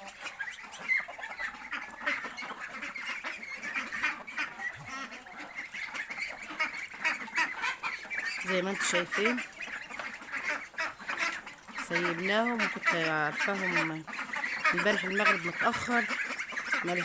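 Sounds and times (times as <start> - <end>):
poultry calling: 0.0 - 17.0.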